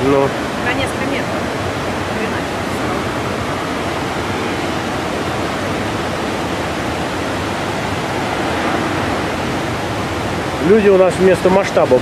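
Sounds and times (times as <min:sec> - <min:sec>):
ocean waves crashing on rocks: 0:00.0 - 0:12.0.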